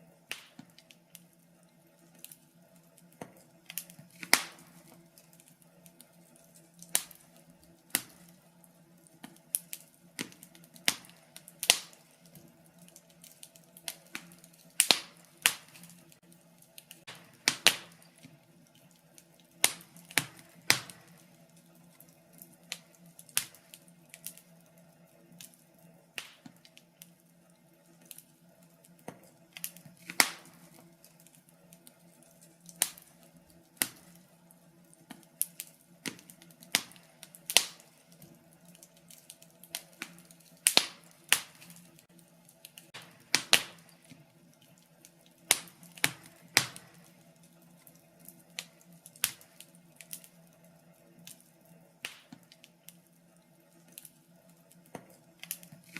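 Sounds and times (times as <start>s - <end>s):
faint steady hum: 0.0s - 55.9s
wood fire crackling and popping: 0.0s - 55.9s.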